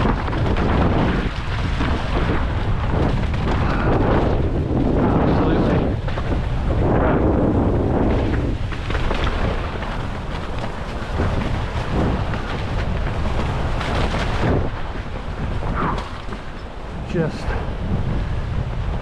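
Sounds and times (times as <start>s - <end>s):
low rumble of bike tyres: 0.0s - 19.0s
wind buffeting microphone: 0.0s - 19.0s.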